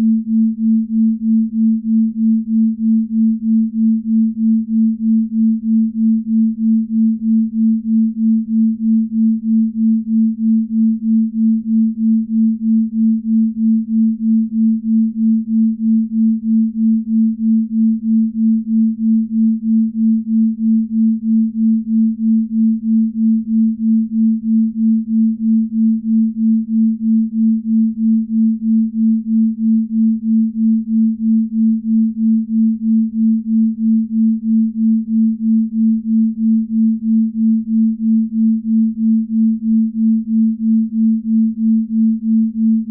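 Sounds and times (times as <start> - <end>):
low pulsing pure tone: 0.0 - 42.9.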